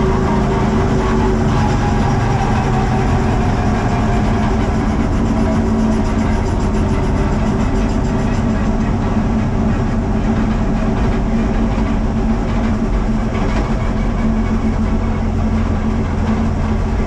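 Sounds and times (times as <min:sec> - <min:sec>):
race car engine running: 0:00.0 - 0:17.0
road and wind rumble: 0:00.0 - 0:17.0.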